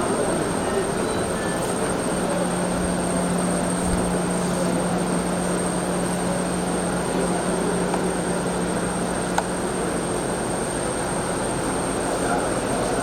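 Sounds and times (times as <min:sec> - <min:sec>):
steady machine noise: 0:00.0 - 0:13.0.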